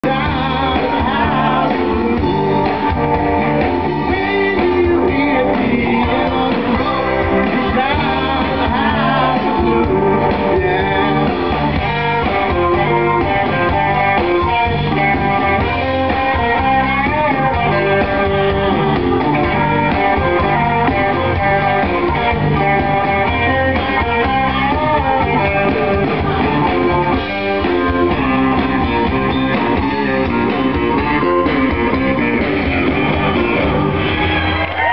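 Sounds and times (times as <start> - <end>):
electric guitar: 0.0 - 34.9
live rock band playing: 0.0 - 34.9.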